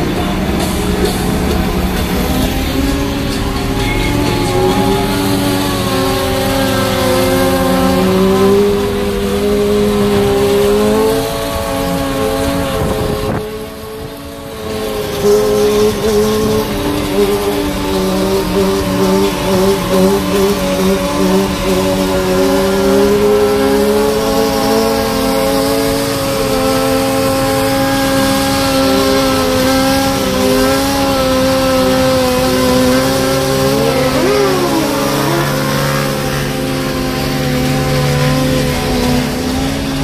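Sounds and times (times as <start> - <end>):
motorcycle engine revving: 0.0 - 40.0
motorcycle engines droning: 0.0 - 40.0
road noise inside car: 0.0 - 40.0.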